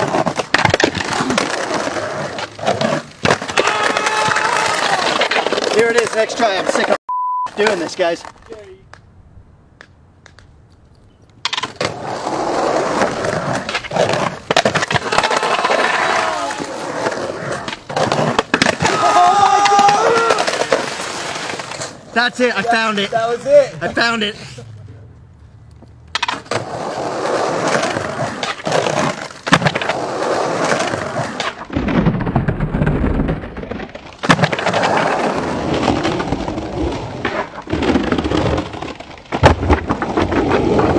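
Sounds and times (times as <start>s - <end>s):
skateboard clacking on ground: 0.0s - 7.0s, 9.8s - 22.0s, 25.8s - 31.7s, 32.3s - 40.9s
skateboard wheels rolling on concrete: 0.0s - 40.9s.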